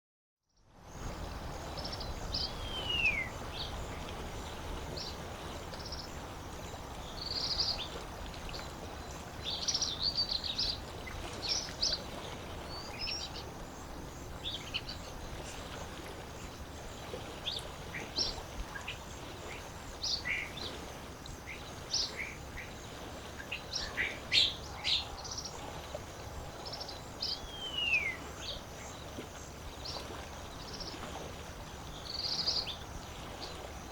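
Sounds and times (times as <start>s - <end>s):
songbirds chirping: 0.8s - 33.9s.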